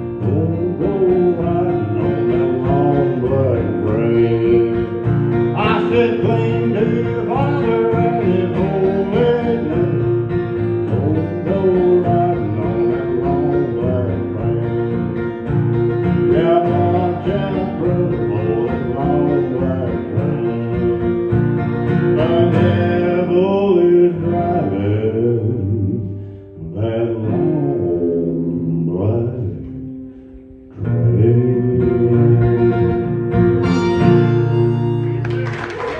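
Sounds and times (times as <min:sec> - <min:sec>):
man singing: 0:00.0 - 0:30.0, 0:30.7 - 0:34.7
acoustic guitar strumming: 0:00.0 - 0:35.9
electric bass guitar: 0:00.0 - 0:35.9.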